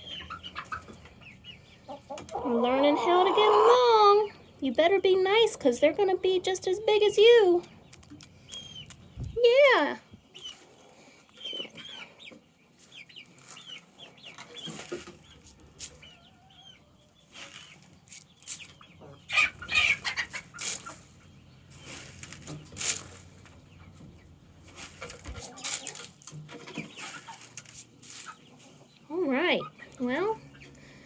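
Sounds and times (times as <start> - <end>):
hens clucking and peeping: 0.0 - 31.0.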